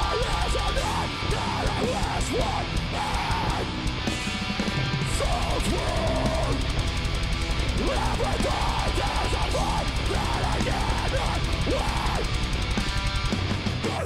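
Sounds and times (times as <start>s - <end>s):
dense drums: 0.0s - 14.0s
heavy distorted guitars: 0.0s - 14.0s.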